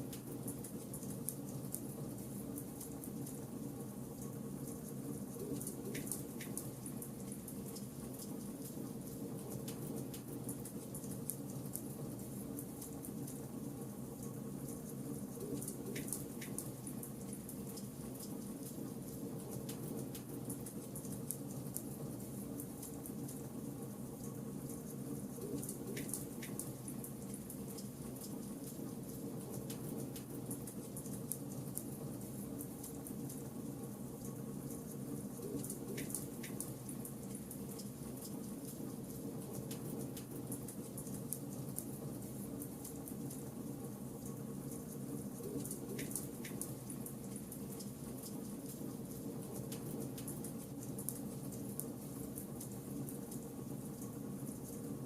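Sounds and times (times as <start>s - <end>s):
low background noise: 0.0s - 55.0s.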